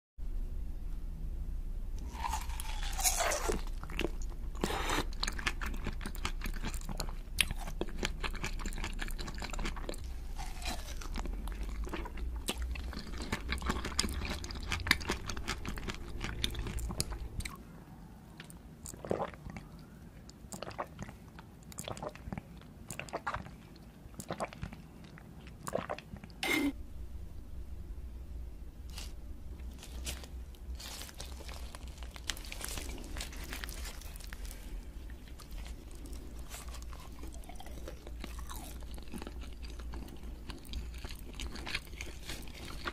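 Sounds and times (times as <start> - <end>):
wet chewing and crunching: 2.0 - 17.7, 18.3 - 26.4, 28.9 - 42.9.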